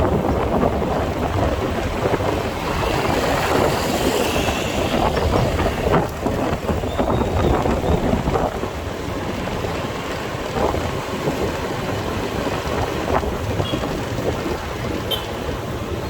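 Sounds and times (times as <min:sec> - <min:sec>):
motorcycle rumble: 0:00.0 - 0:16.0
wind buffeting microphone: 0:00.0 - 0:16.0.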